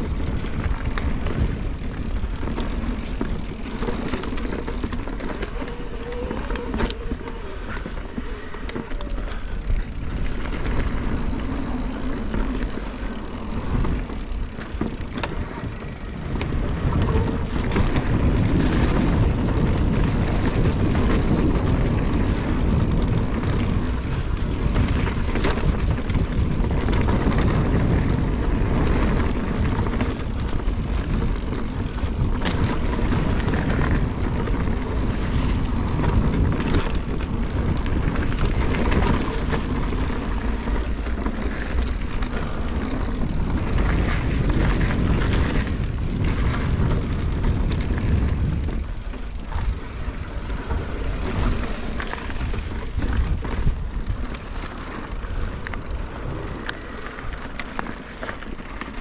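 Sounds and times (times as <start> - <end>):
bike knocking and rattling: 0.0 - 59.0
bike tyres rolling on dirt: 0.0 - 59.0
wind rumbling on microphone: 0.0 - 59.0.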